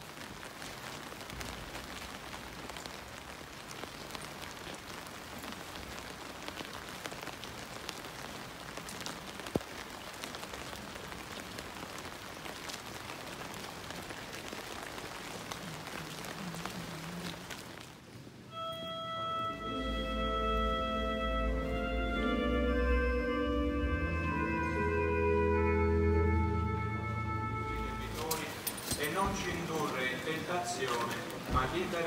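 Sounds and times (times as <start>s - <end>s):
light rain pattering: 0.0s - 32.0s.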